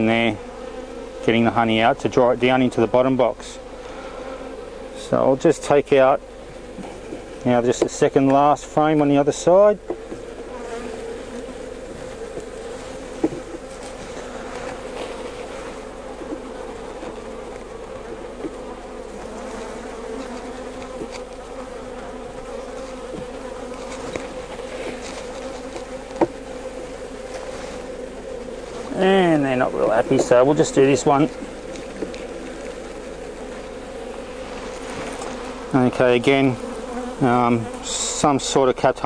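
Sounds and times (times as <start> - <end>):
bees buzzing: 0.0 - 39.0.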